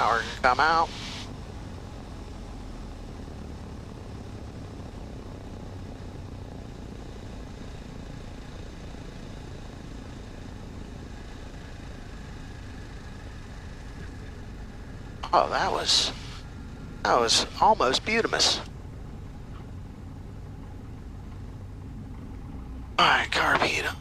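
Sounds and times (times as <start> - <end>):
aircraft engine droning in cabin: 0.0 - 24.0.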